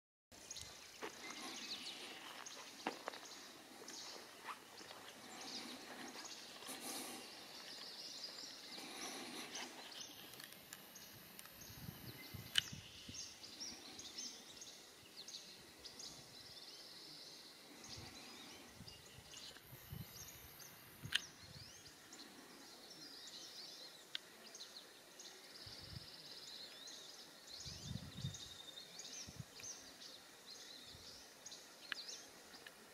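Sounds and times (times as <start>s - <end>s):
small birds chirping: 0.4s - 32.9s.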